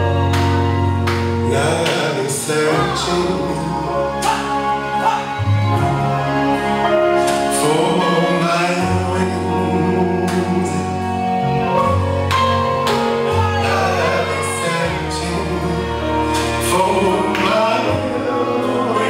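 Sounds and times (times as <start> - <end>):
slow mellow song with singing: 0.0 - 19.0.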